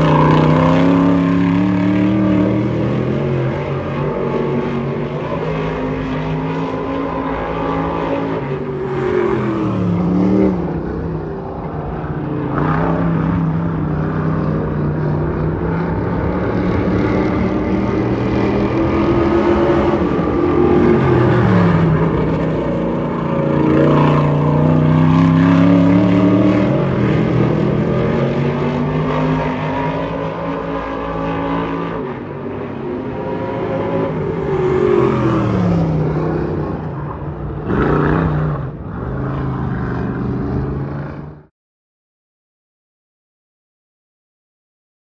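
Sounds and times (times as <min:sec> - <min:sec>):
race car engines revving: 0:00.0 - 0:41.5
race car passing close: 0:00.0 - 0:41.5.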